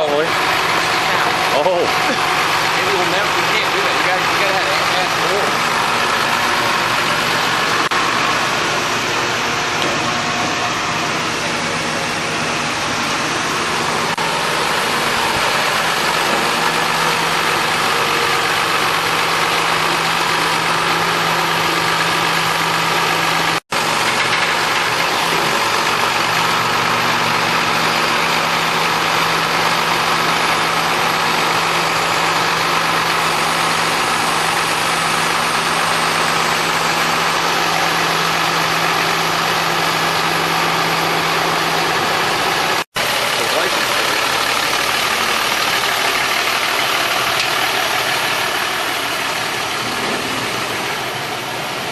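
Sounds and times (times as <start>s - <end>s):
vehicle engine idling: 0.0s - 51.9s.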